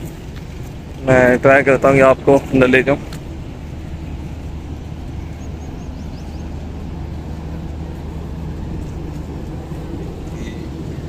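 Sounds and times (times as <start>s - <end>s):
train machinery droning: 0.0s - 11.0s.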